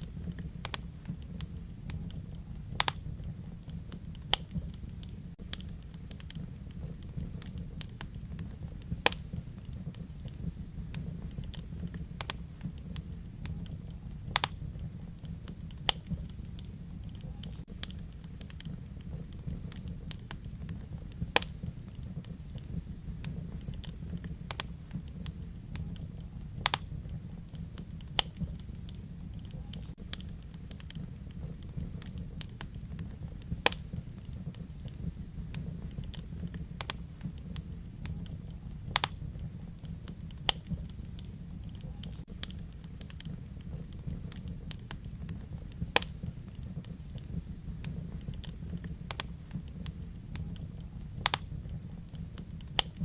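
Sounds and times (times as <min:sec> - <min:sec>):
fire crackling and popping: 0:00.0 - 0:53.0
low rumble of flame: 0:00.0 - 0:53.0.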